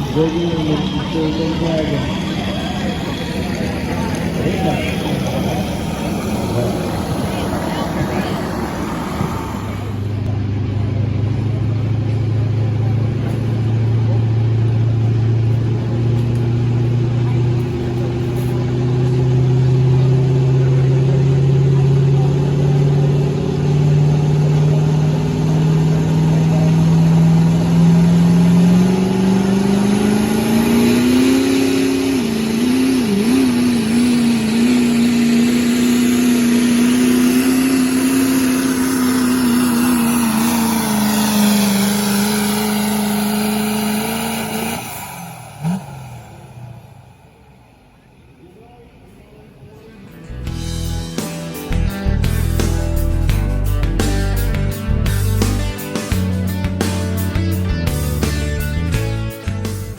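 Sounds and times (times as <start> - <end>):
diesel truck engine under load: 0.0 - 49.1, 49.7 - 59.9.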